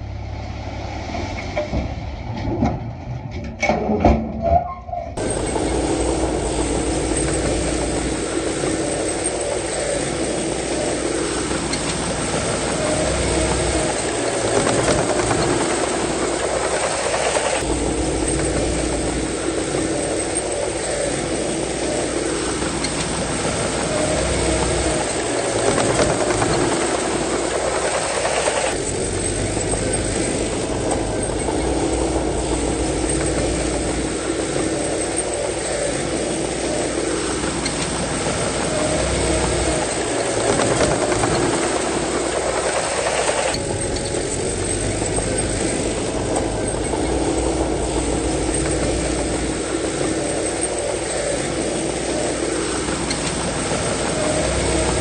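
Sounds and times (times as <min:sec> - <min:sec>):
diesel earthmoving machinery working: 0:00.0 - 0:55.0.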